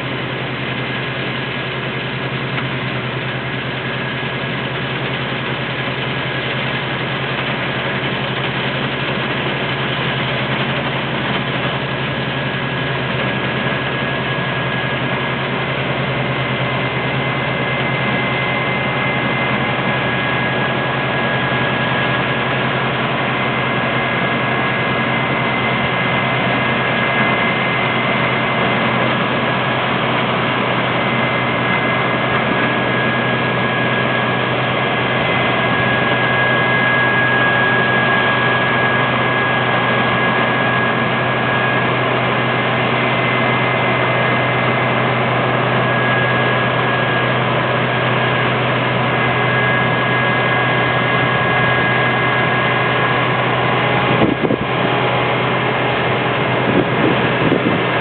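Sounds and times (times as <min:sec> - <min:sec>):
combine harvester droning: 0:00.0 - 0:58.0
high whine: 0:00.0 - 0:58.0.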